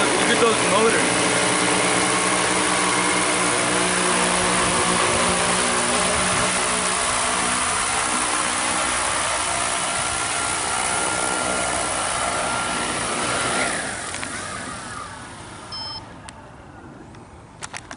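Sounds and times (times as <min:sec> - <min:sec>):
drone motors and propellers whining: 0:00.0 - 0:17.6.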